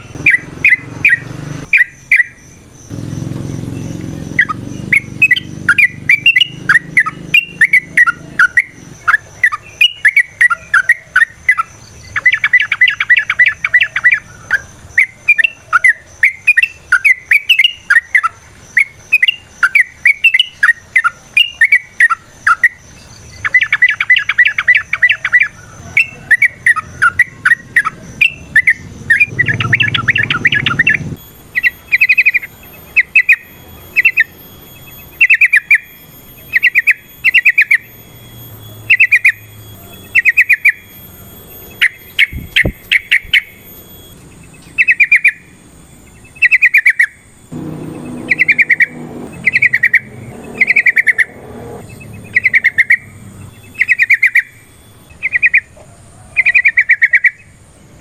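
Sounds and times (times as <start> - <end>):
bird singing warbling notes: 0.0 - 58.0.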